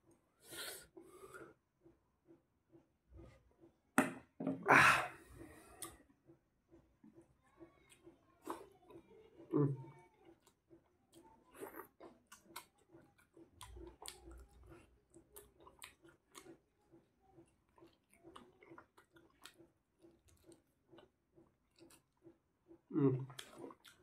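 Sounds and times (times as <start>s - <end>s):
faint chewing: 0.0s - 3.8s, 5.2s - 24.0s.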